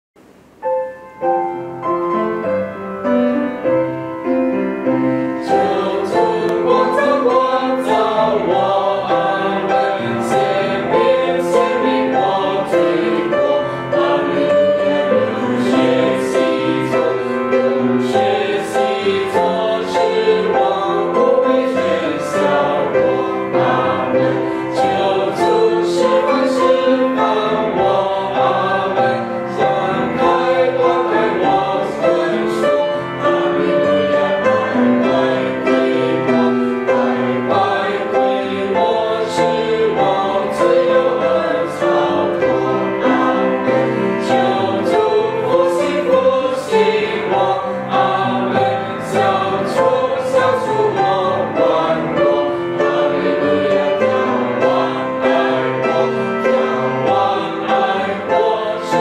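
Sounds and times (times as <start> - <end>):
piano accompaniment: 0.2 - 59.0
choir singing a hymn: 1.3 - 59.0.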